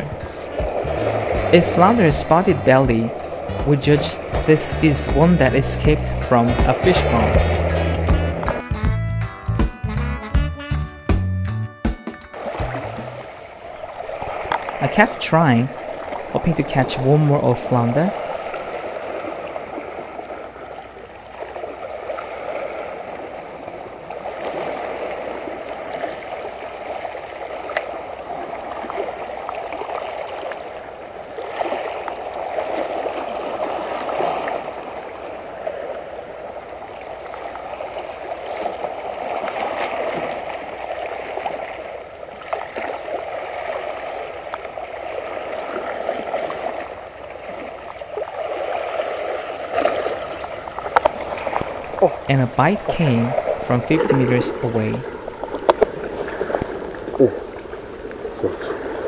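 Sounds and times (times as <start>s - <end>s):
seawater lapping against rocks: 0.0s - 8.6s, 12.3s - 59.0s.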